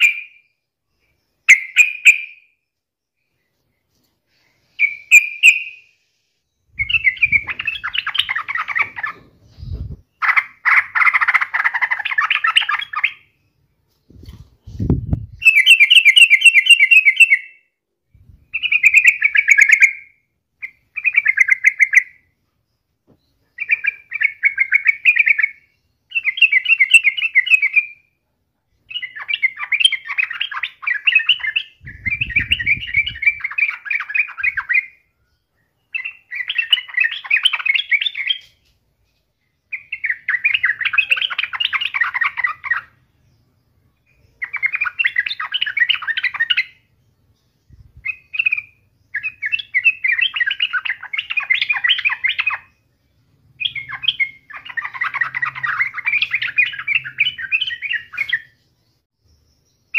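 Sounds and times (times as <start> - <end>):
bulbul singing: 0.0 - 59.9.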